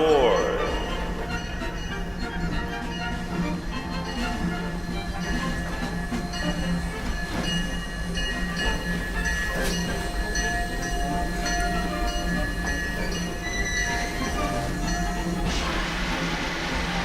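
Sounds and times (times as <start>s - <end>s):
steam locomotive working: 0.0s - 17.0s.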